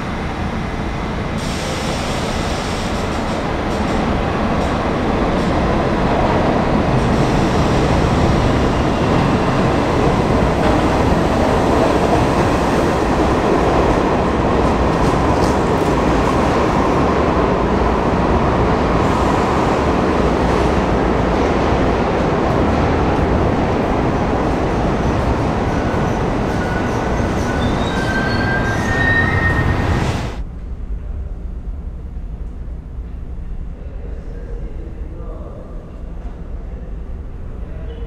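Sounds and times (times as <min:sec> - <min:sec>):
subway train rumbling on rails: 0:00.0 - 0:38.0.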